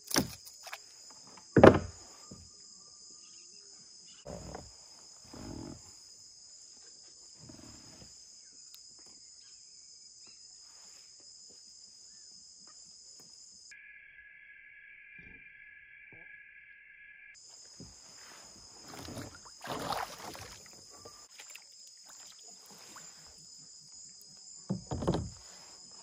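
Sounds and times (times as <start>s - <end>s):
lower-pitched insect drone: 0.0s - 26.0s
shrill insect chorus: 0.0s - 26.0s.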